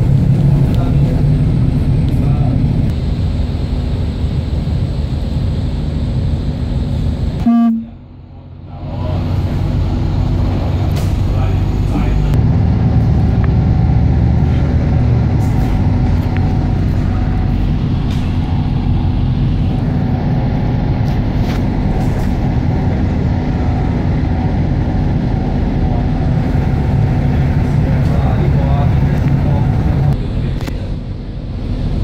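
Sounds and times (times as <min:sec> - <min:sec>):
bus engine and road drone: 0:00.0 - 0:32.0.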